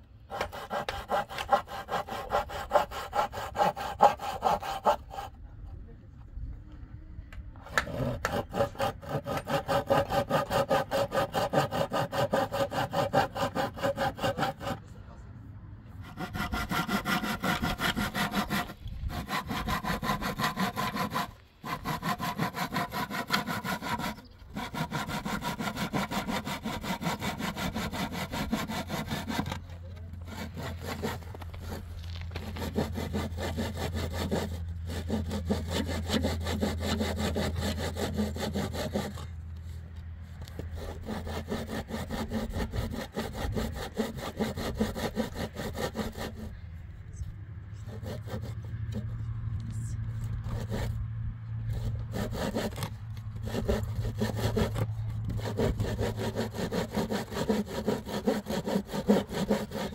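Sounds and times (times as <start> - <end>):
saw cutting wood: 0.0 - 5.4, 7.6 - 15.0, 15.9 - 59.9.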